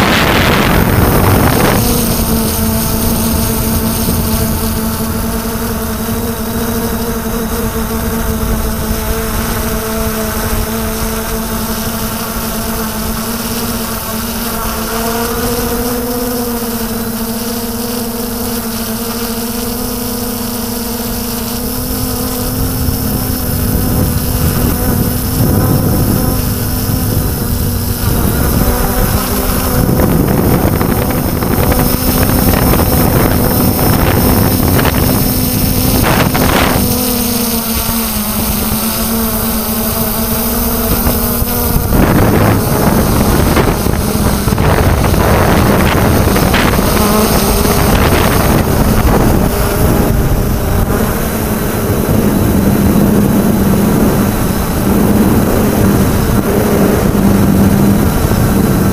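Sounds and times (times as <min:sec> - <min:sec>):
wind buffeting microphone: 0:00.0 - 0:16.7, 0:21.0 - 0:58.9
drone propellers humming: 0:00.0 - 0:58.9.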